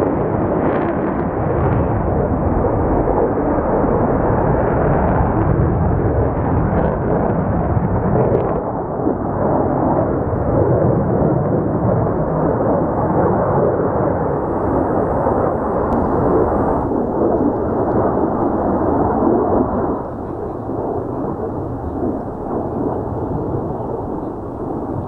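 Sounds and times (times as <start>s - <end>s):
jet engines roaring overhead: 0.0s - 25.0s.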